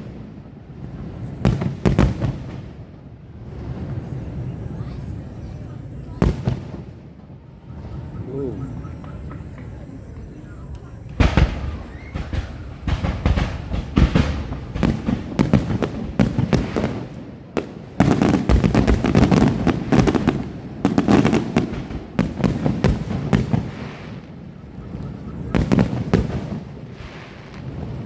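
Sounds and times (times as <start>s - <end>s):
fireworks booming and cracking: 0.0s - 28.0s.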